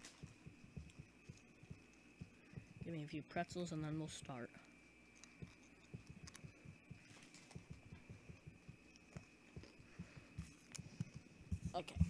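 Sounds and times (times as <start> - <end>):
soft low thumps: 0.0 - 4.4, 5.4 - 12.0
faint high whine: 0.0 - 12.0.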